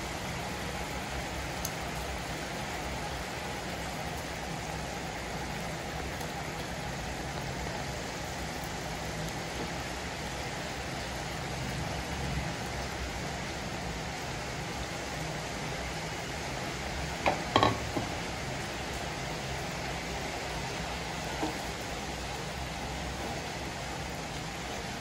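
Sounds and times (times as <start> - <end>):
curry sizzling in a wok: 0.0 - 25.0.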